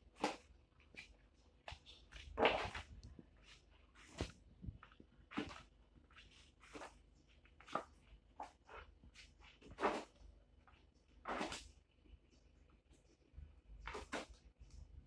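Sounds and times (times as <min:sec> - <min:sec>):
wallpaper pages turning: 0:00.0 - 0:13.1, 0:13.8 - 0:14.8.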